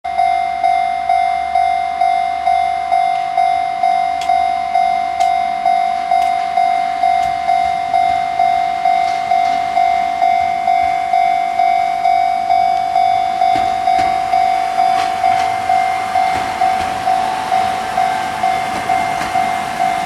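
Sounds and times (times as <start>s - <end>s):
level crossing warning bell: 0.1s - 20.0s.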